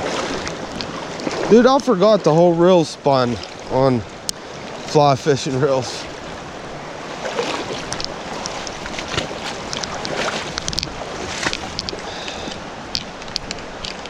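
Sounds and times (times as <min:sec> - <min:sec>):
flowing creek water: 0:00.0 - 0:14.0.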